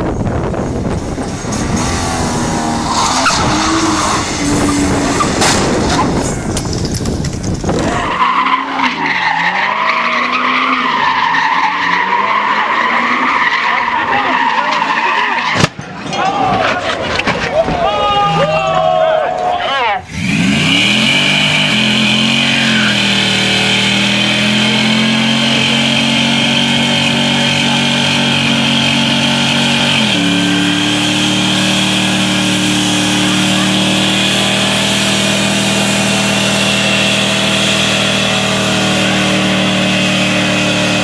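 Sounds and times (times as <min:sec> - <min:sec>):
vehicle engine at high revs: 0:00.0 - 0:14.9, 0:20.1 - 0:41.0.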